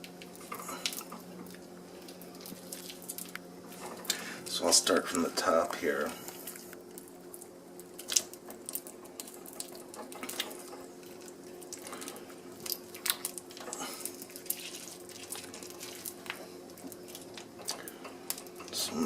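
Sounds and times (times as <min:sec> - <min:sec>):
faint steady hum: 0:00.0 - 0:19.0
wax crackling and popping: 0:00.0 - 0:19.0.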